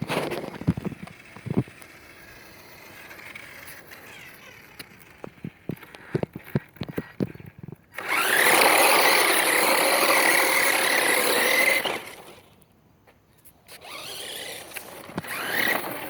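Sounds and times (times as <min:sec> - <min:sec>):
toy truck motor whining: 0:00.2 - 0:12.5, 0:13.6 - 0:16.0.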